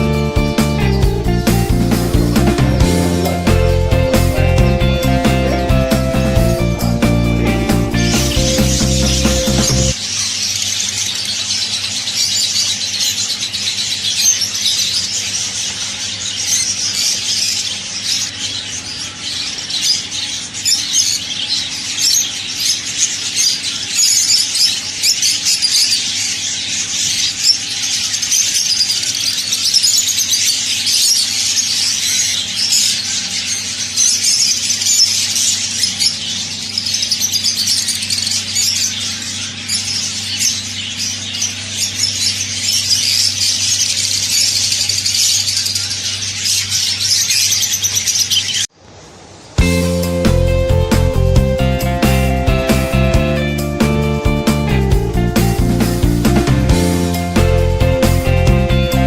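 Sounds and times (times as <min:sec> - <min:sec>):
caged birds chirping and squawking: 0:00.0 - 0:48.7.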